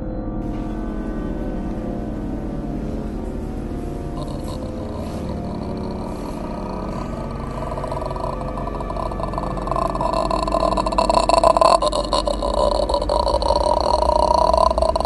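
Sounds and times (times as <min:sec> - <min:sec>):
low drone: 0:00.0 - 0:15.0
throaty ghostly rattle: 0:00.8 - 0:15.0.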